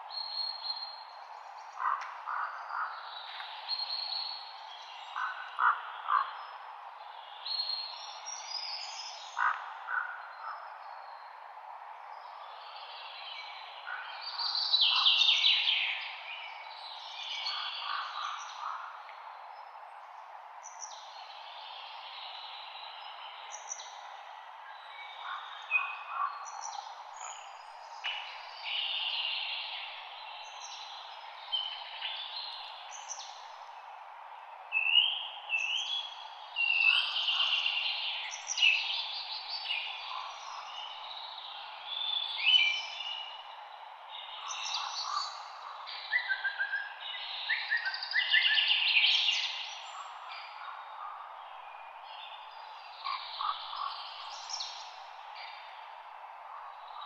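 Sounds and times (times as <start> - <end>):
songbirds singing and chirping: 0.0 - 57.0
wind rustling leaves: 0.0 - 57.0.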